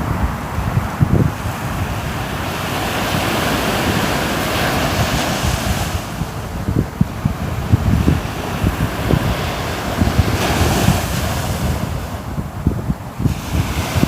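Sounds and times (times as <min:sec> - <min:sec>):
ocean wave washing in: 0:00.0 - 0:14.0
wind gusting on microphone: 0:00.0 - 0:14.0.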